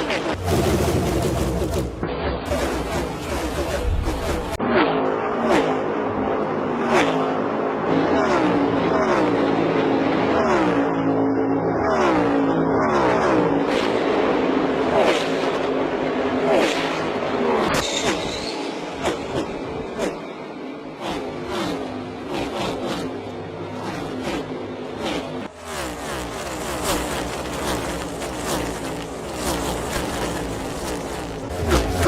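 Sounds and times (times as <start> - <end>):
race cars passing by: 0.0 - 32.0.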